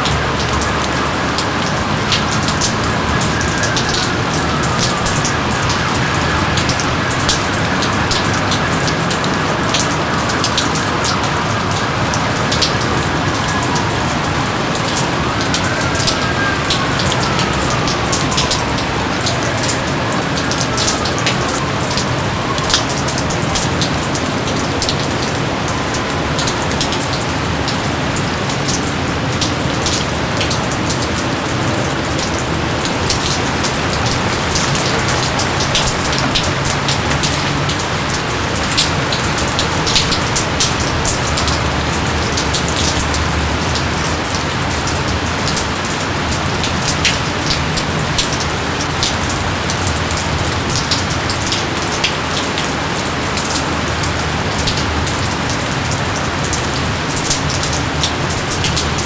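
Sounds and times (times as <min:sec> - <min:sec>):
heavy rain drops tapping: 0:00.0 - 0:59.0.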